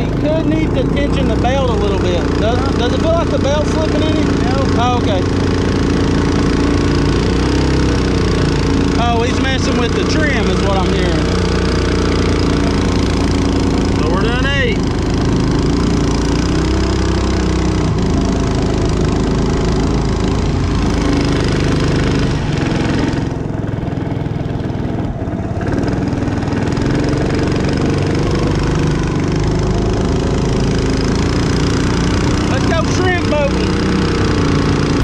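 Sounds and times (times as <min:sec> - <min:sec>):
boat motor running: 0:00.0 - 0:35.0.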